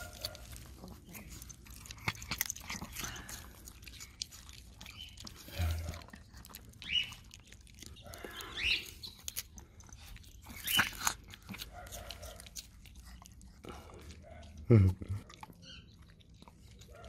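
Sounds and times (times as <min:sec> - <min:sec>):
dog chewing: 0:00.0 - 0:17.0
dog crunching plant stalk: 0:00.0 - 0:17.0.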